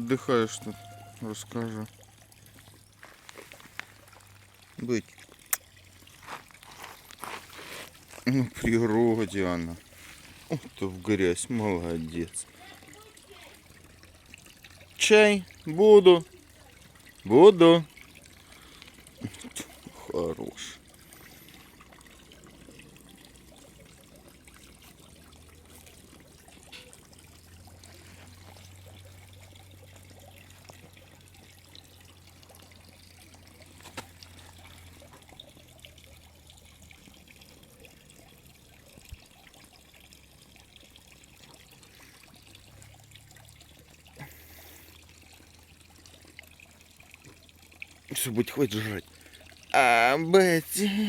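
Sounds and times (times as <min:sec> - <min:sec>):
low steady hum: 0:00.0 - 0:48.4
trickling water: 0:00.0 - 0:51.0.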